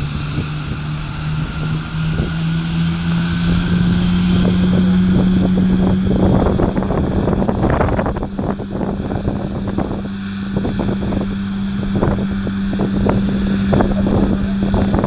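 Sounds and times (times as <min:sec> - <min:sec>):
tractor engine humming: 0:00.0 - 0:15.0
wind buffeting microphone: 0:00.0 - 0:15.0.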